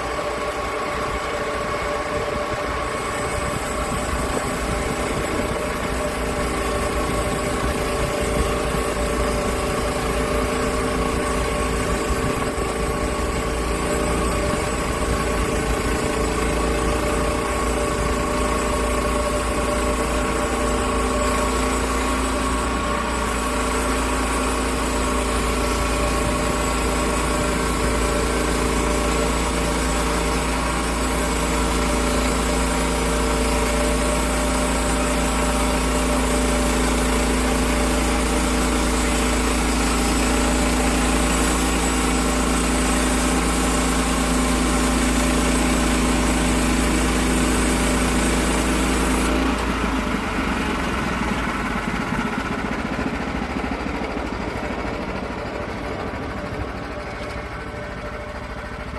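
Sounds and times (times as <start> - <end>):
sawmill engine cutting log: 0.0 - 58.9.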